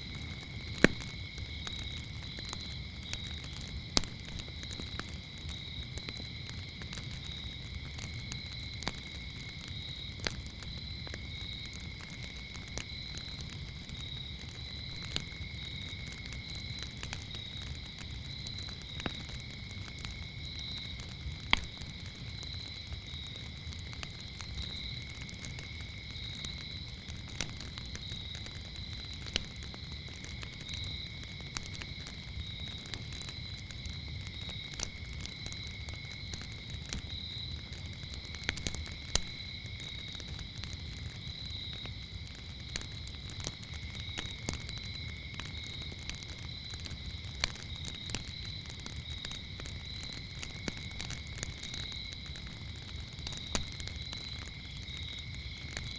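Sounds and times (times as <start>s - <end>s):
crickets chirping: 0.0s - 55.9s
wood fire crackling and popping: 0.0s - 55.9s.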